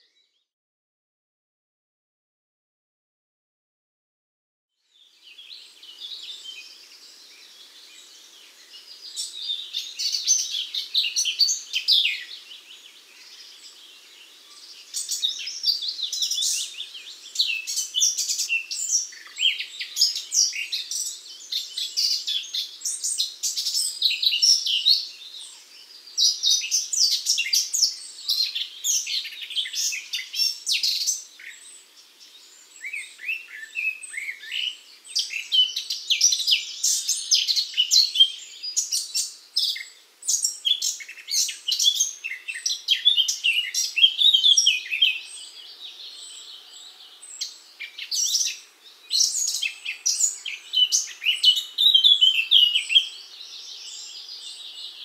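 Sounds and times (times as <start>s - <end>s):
songbirds chirping and singing: 4.9s - 55.0s.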